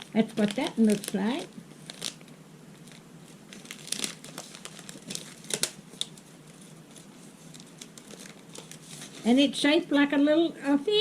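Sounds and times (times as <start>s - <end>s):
plastic wrapper crinkling: 0.0s - 9.4s.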